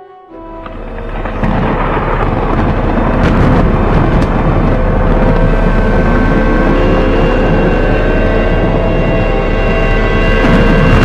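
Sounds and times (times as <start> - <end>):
rising whine: 0.0 - 11.0
steady higher tones: 0.0 - 11.0
volcanic eruption rumbling: 0.5 - 11.0.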